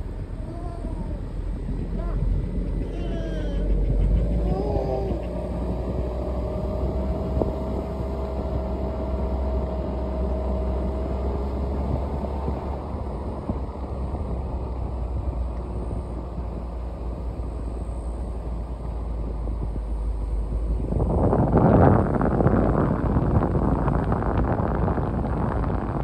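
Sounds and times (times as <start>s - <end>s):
car engine and tyre rumble: 0.0s - 26.0s
faint steady whine: 0.0s - 26.0s.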